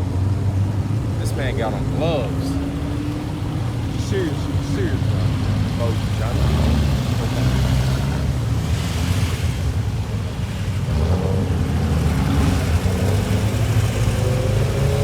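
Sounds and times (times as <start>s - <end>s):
car engine running low revs: 0.0s - 15.0s.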